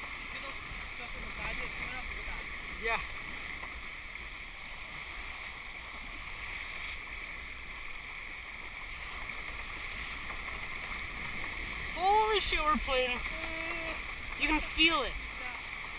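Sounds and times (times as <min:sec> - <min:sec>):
water rushing along hull: 0:00.0 - 0:15.9.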